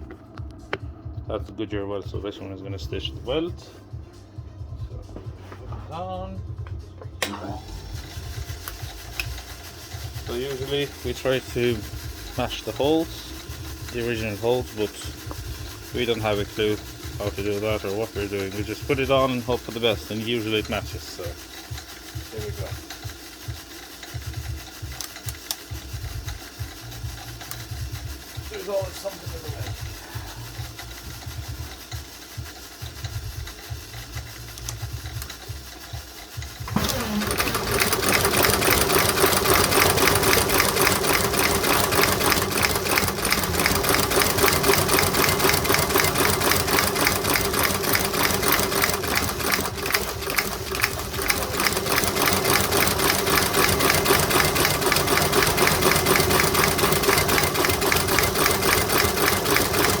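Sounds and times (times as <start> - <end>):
low machine hum: 0.0 - 25.0, 25.7 - 60.0
stitching machine needle strokes: 7.2 - 60.0.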